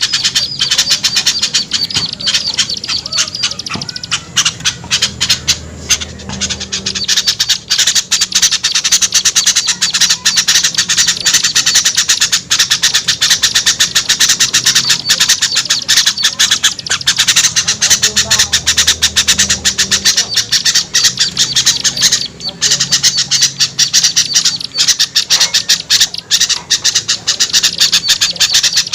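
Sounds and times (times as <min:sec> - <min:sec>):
small songbirds chattering: 0:00.0 - 0:28.9.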